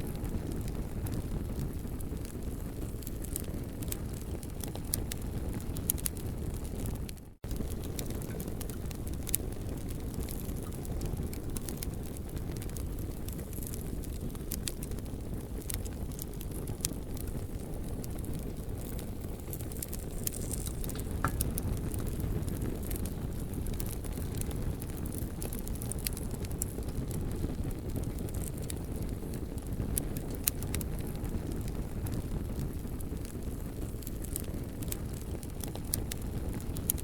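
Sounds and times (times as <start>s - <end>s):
campfire crackling and popping: 0.0s - 37.0s
low fire rumble: 0.0s - 37.0s.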